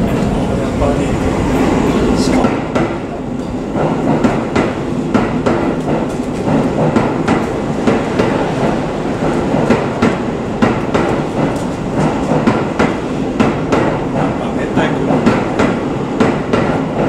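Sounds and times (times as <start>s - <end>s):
train wheels rumbling on rail: 0.0s - 17.0s
wheels clacking over rail joints: 0.0s - 17.0s.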